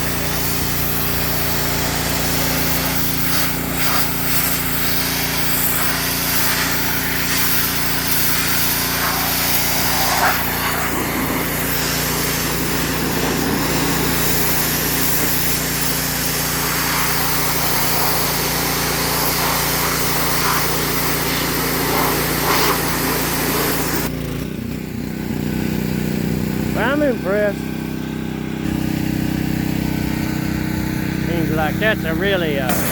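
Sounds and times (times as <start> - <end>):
high-pressure water spray hissing: 0.0 - 24.1, 26.0 - 32.9
pressure washer motor: 0.0 - 32.9.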